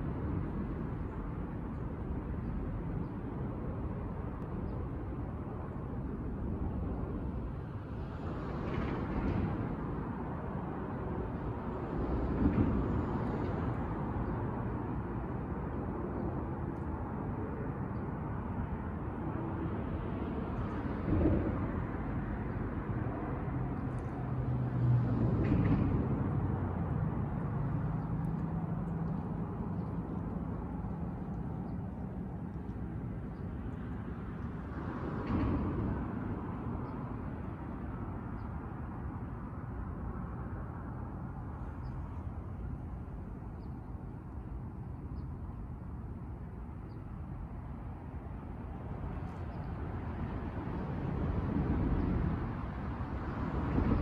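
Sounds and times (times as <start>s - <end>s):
outdoor background rumble: 0.0s - 54.0s.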